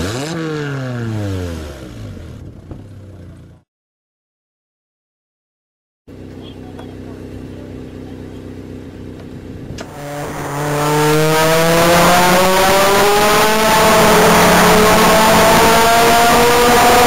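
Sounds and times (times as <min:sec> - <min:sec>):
car engine accelerating hard: 0:00.0 - 0:03.3, 0:06.1 - 0:17.0.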